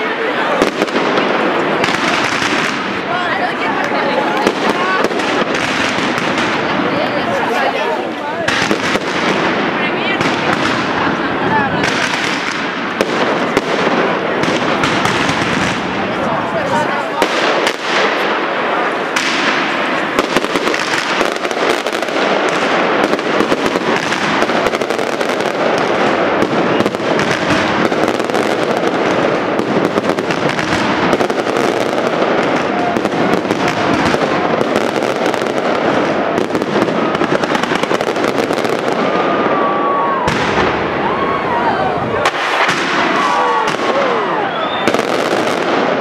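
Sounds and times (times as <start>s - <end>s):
fireworks crackling and banging: 0.0s - 46.0s.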